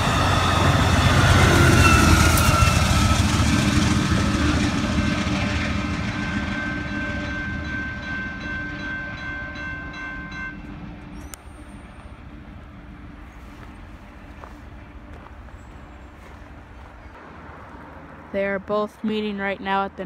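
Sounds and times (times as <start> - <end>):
crossing warning bell ringing: 0.0 - 16.3
passing train rumble: 0.0 - 20.0.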